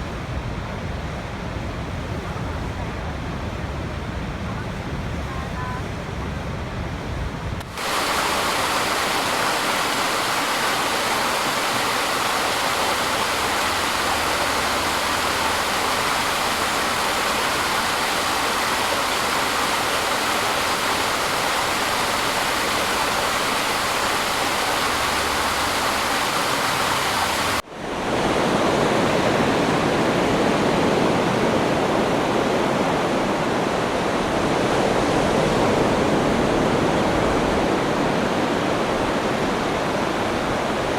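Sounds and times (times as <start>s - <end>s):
rushing falling water: 7.6s - 40.9s.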